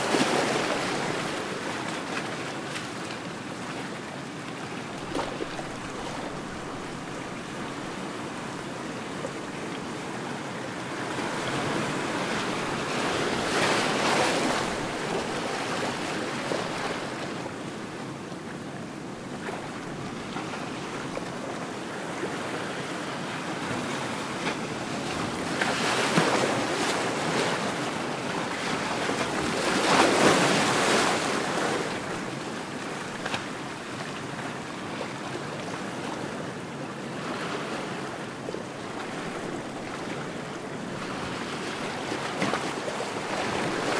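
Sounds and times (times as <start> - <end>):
ocean waves breaking: 0.0 - 43.9
wind: 0.0 - 43.9.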